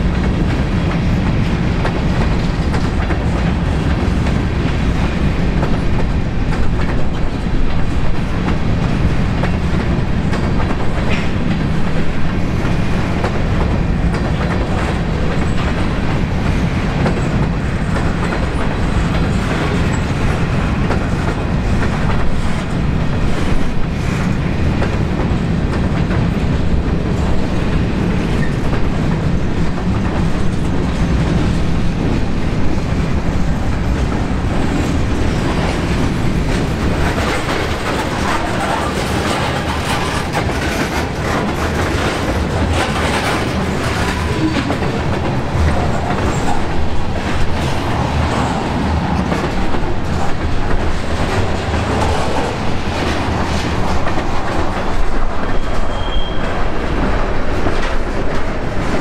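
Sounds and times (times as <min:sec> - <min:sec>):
train cars clicking and clanking: 0:00.0 - 0:59.0
train wheels rumbling on rails: 0:00.0 - 0:59.0.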